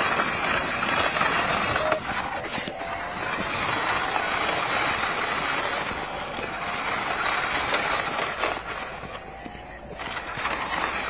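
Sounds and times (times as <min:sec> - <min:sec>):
toy car wheels rolling on stone: 0:00.0 - 0:11.0.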